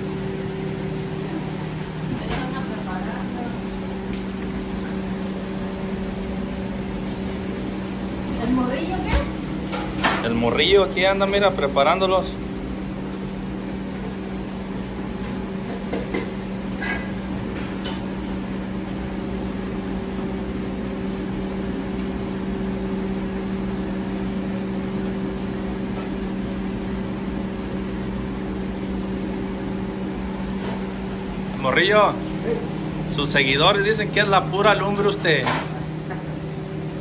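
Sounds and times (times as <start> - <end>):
kitchen machinery hum: 0.0 - 37.0.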